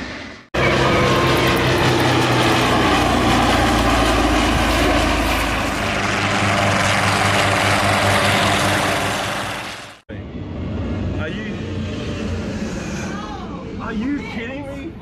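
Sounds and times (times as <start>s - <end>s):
propeller aircraft flying past: 0.0s - 14.4s.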